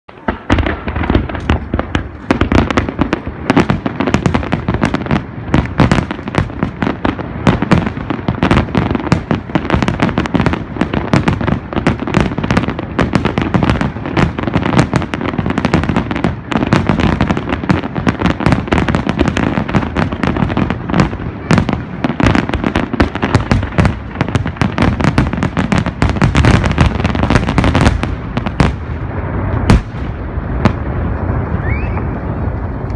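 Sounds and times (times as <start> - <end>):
fireworks bursting bangs: 0.1 - 32.9.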